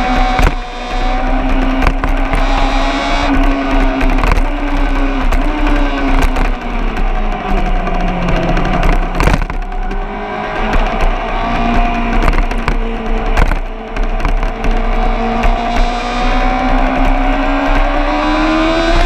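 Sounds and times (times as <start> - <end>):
car engine running hard: 0.0 - 19.0
sharp knocks: 0.0 - 19.0.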